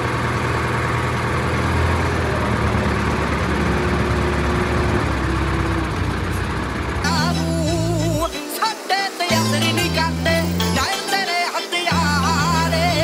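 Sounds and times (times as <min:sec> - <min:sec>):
crane diesel engine drone: 0:00.0 - 0:13.0.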